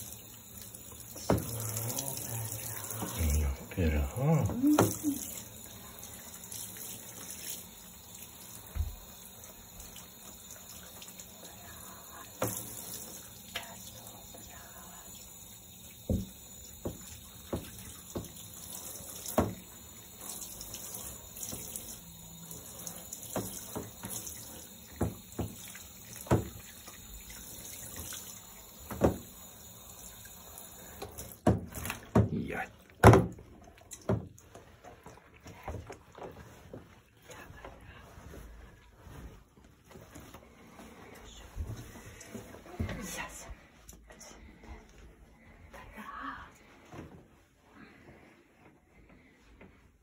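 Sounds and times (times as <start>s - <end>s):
shower water spraying: 0.0s - 32.7s, 33.5s - 43.8s.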